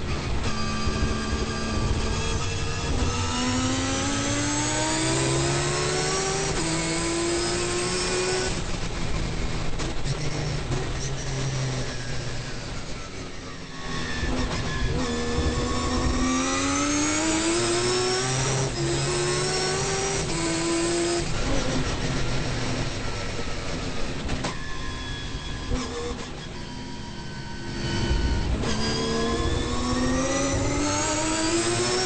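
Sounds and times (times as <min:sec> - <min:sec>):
race car rotary engine accelerating: 0:00.0 - 0:32.0.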